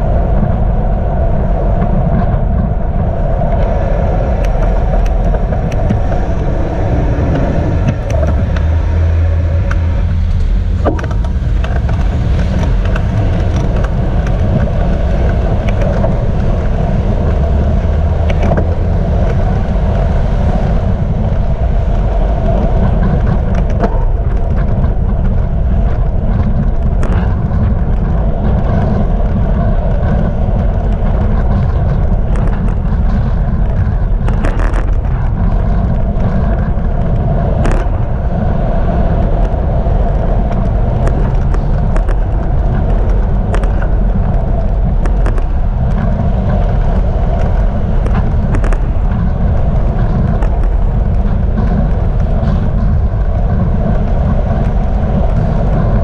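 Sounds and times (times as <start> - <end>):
cars passing: 0.0 - 56.0
road rumble: 0.0 - 56.0
wind on microphone: 0.0 - 56.0.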